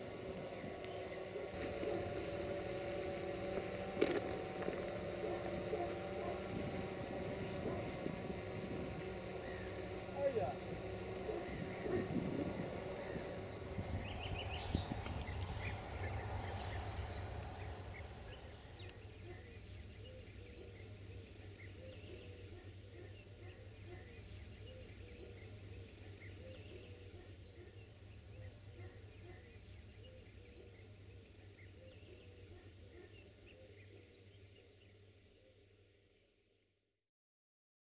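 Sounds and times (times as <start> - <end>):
insects trilling: 0.0 - 36.5.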